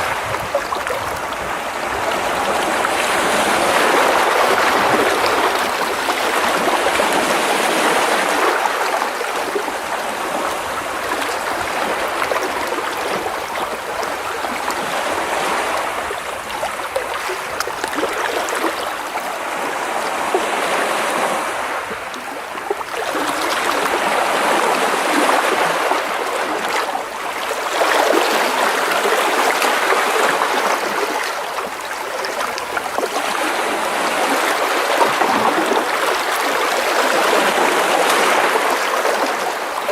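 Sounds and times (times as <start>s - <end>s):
waves splashing over rocks: 0.0s - 39.9s.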